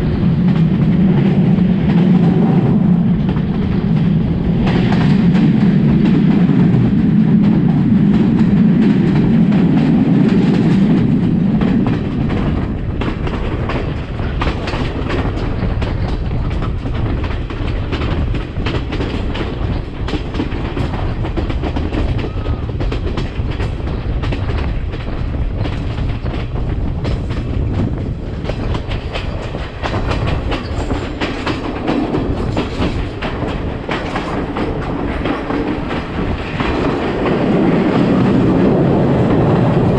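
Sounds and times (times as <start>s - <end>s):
train rumble: 0.0s - 39.9s
train wheels clattering over joints: 0.0s - 39.9s.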